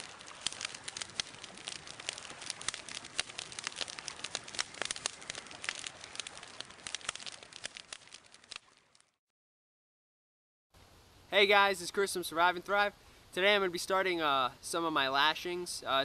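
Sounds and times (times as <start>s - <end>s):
steady hiss of fire: 0.0s - 9.1s, 10.8s - 16.0s
campfire crackling: 0.0s - 9.2s, 10.8s - 16.0s.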